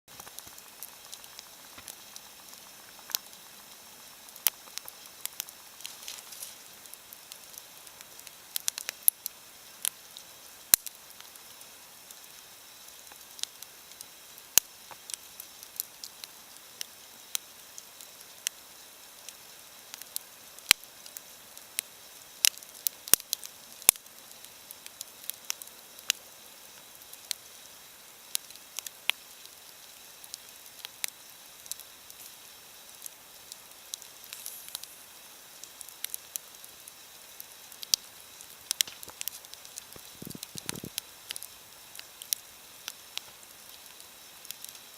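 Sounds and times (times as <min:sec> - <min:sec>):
wood fire crackling and popping: 0:00.1 - 0:44.9.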